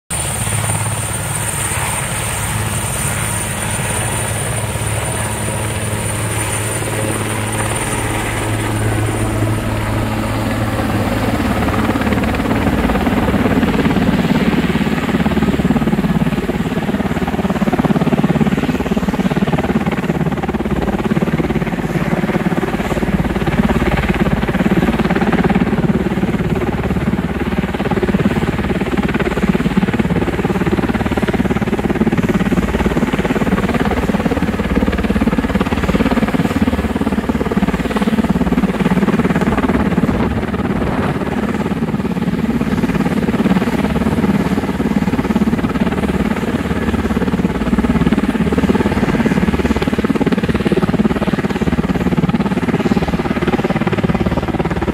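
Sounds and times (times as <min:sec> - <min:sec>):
helicopter rotor noise: 0:00.1 - 0:54.9
helicopter turbine whine: 0:00.1 - 0:54.9.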